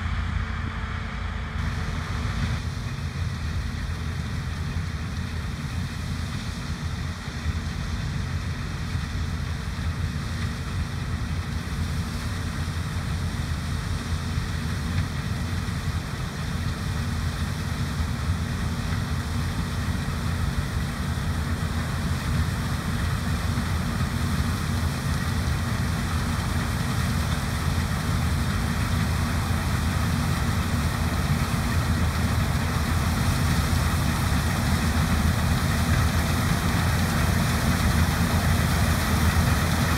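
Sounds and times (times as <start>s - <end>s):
heavy diesel engine rumbling: 0.0s - 39.9s.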